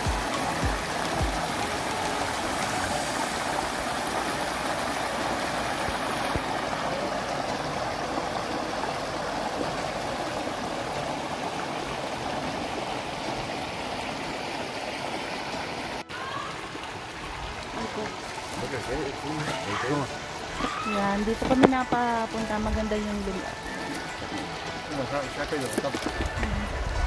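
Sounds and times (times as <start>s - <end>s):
river flowing over rocks: 0.0s - 27.0s.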